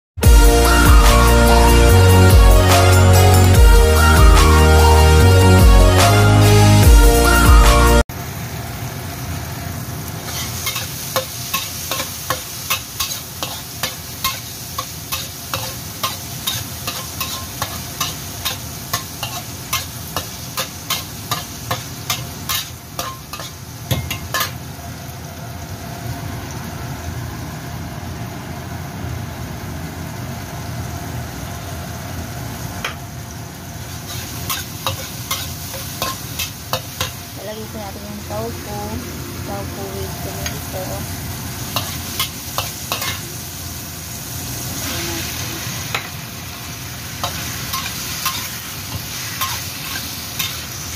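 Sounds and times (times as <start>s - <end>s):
tomatoes sizzling in a wok: 0.2s - 50.9s.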